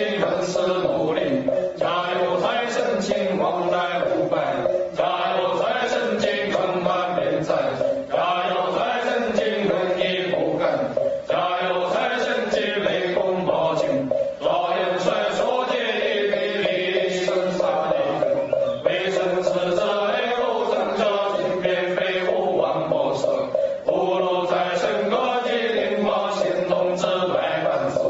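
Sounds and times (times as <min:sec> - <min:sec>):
person chanting a mantra: 0:00.0 - 0:28.0
steady held drone tone: 0:00.0 - 0:28.0.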